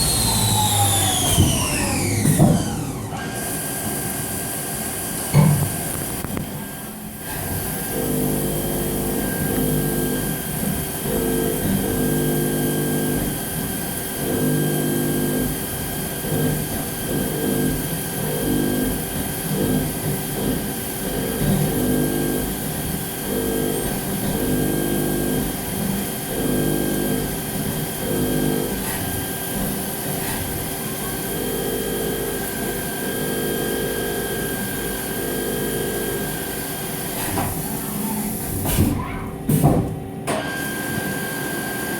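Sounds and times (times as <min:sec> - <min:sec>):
lathe cutting hum: 0:00.0 - 0:05.3, 0:06.6 - 0:37.1
high machine whine: 0:00.0 - 0:38.6.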